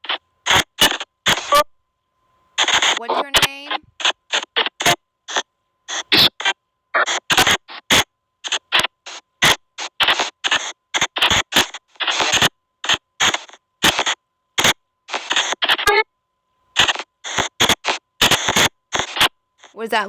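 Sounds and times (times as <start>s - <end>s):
white noise static bursts: 0.0s - 1.7s, 2.6s - 16.0s, 16.8s - 19.9s.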